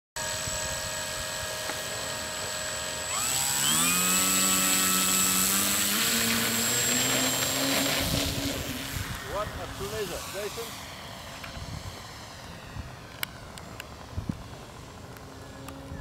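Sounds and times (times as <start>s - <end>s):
electric motor and propeller whining: 0.2s - 16.0s.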